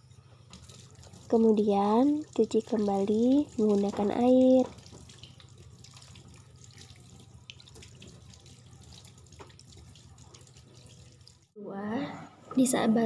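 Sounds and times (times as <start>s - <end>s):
small splashes and drips: 0.0s - 11.6s
water running faintly: 0.0s - 11.6s.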